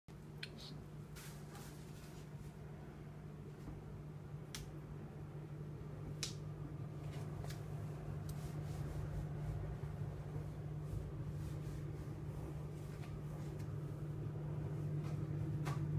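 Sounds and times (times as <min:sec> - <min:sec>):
refrigerator humming: 0:00.1 - 0:15.9.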